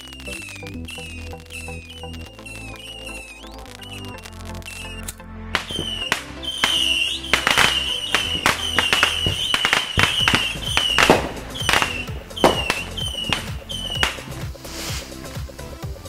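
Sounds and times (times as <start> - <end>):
background music: 0.0 - 16.0
fireworks cracking and popping: 0.0 - 16.0.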